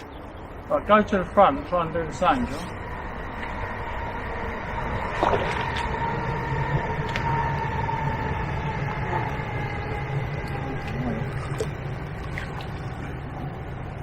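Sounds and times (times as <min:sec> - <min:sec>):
distant engine droning: 0:00.0 - 0:14.0.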